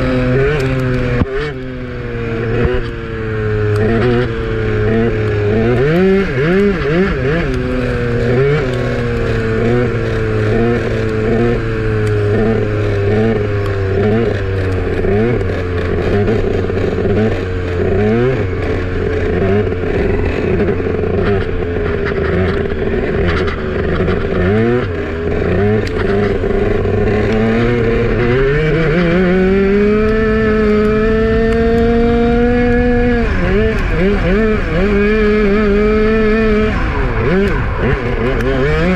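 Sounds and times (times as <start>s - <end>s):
kart engine running hard: 0.0s - 38.9s
other kart engines nearby: 0.0s - 38.9s.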